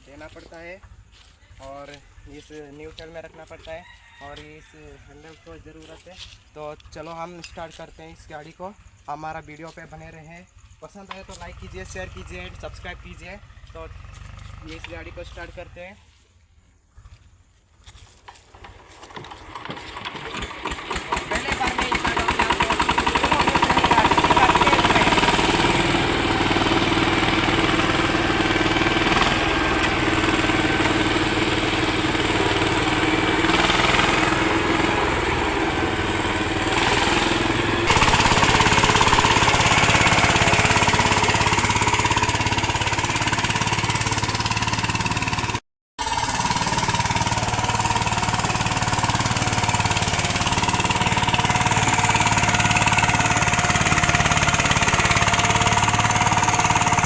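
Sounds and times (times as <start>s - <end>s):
diesel engine running: 6.6s - 16.0s, 18.2s - 57.0s.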